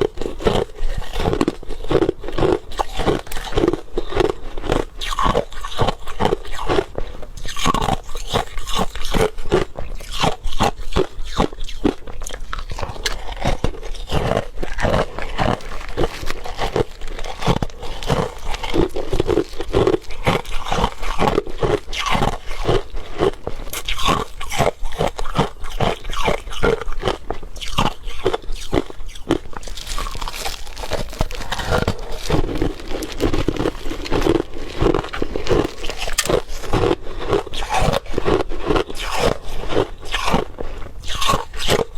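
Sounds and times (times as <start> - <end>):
crushed ice being chewed: 0.0 - 41.9.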